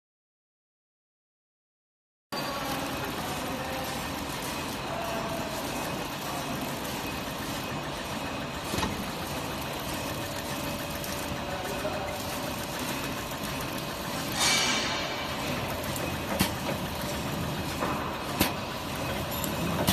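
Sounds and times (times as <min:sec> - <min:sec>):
packing machine clatter and hum: 0:02.4 - 0:19.9.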